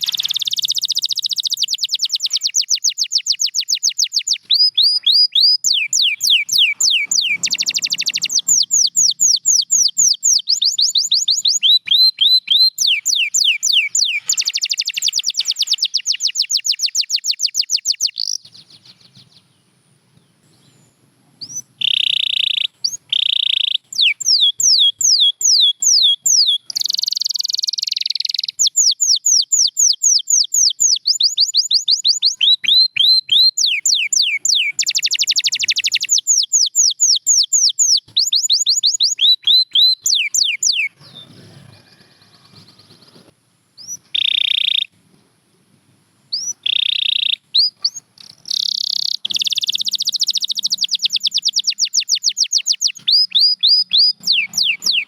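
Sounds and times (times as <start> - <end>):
canary singing: 0.0 - 45.0, 46.3 - 55.0.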